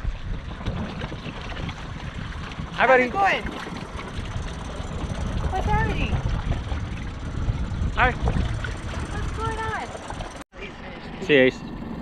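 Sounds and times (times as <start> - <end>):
wind buffeting microphone: 0.0 - 10.4
water sounds: 0.0 - 10.9.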